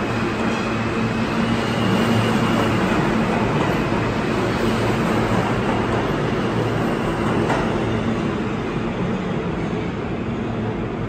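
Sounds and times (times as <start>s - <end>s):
subway train pulling out: 0.0s - 11.0s.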